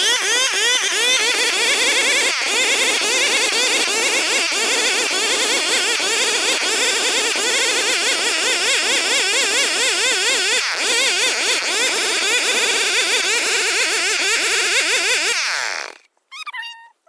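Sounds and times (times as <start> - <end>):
chainsaw cutting wood: 0.0 - 16.1.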